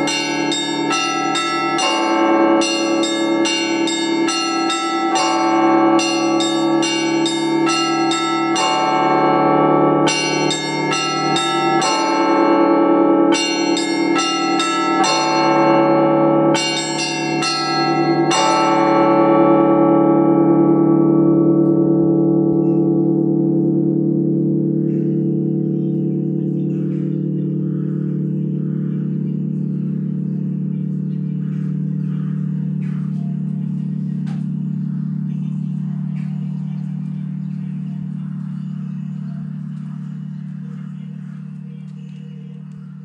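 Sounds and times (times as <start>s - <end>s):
big bell humming: 0.0s - 43.0s
small bells ringing: 0.0s - 43.0s.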